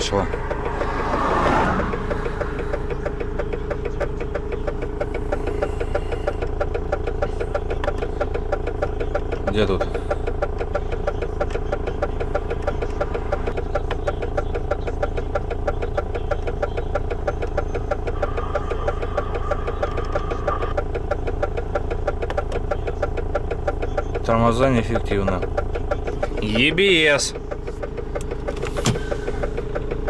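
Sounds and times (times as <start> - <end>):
fast even ticking: 0.0 - 28.5
diesel engine idling: 0.0 - 30.0.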